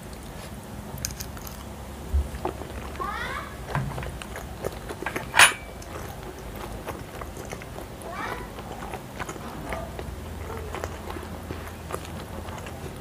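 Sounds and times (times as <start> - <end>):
chewing with wet smacks: 0.0 - 13.0.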